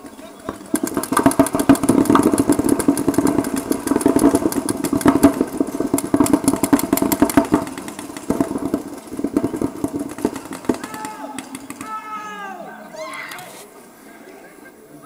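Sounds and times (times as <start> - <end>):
rapid paintball marker fire: 0.0 - 12.2.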